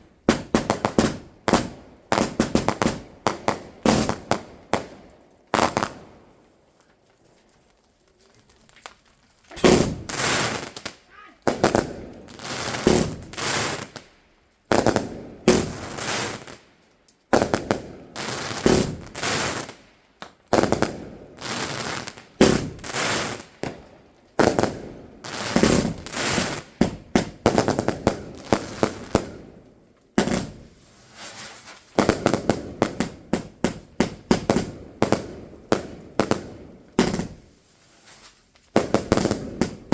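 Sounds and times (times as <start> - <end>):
fireworks bangs: 0.0 - 6.2, 9.5 - 16.7, 17.3 - 19.9, 20.5 - 39.9.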